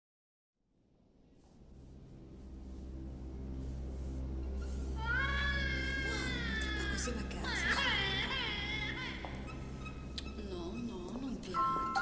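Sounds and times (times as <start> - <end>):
faint film score: 0.9 - 12.0.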